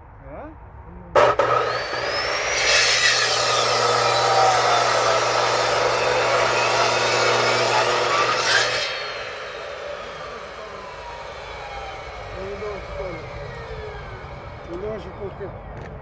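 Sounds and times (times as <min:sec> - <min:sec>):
electric saw cutting firewood: 0:01.2 - 0:16.0.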